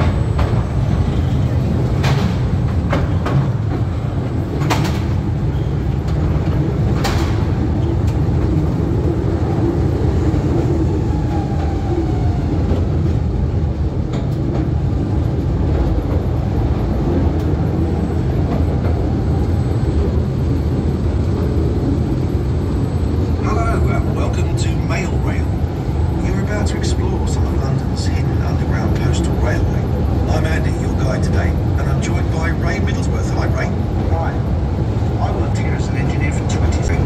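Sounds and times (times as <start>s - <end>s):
rumble of train wheels on rail: 0.0s - 37.0s.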